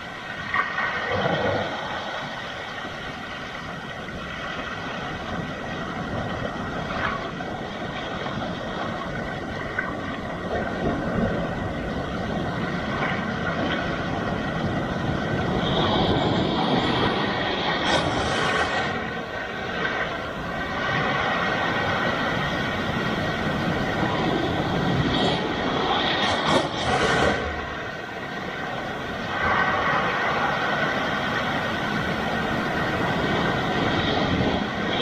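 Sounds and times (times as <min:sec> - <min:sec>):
waves breaking on rocky shore: 0:00.0 - 0:35.0.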